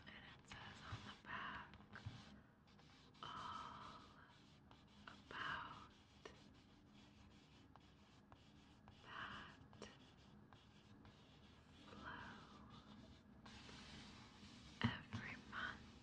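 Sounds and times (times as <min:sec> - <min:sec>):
pencil rubbing on paper: 0:00.3 - 0:16.0.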